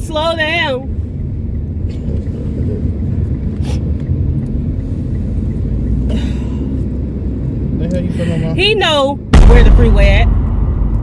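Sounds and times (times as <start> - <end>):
car interior driving rumble: 0.0 - 11.0.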